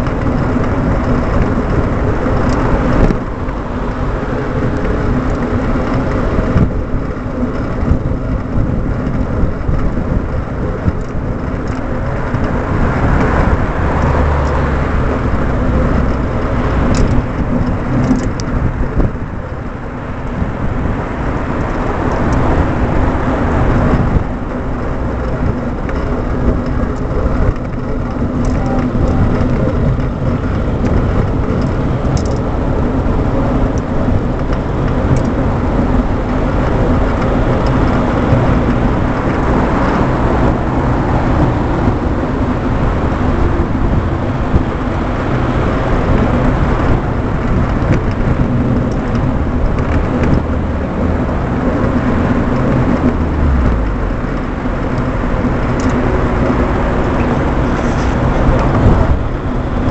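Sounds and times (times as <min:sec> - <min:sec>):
car traffic passing: 0:00.0 - 0:59.9
wind buffeting microphone: 0:00.0 - 0:59.9.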